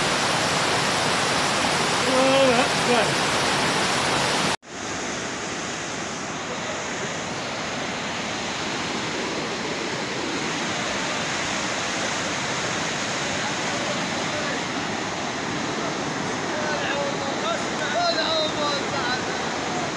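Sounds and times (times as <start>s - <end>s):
floodwater rushing: 0.0s - 19.9s.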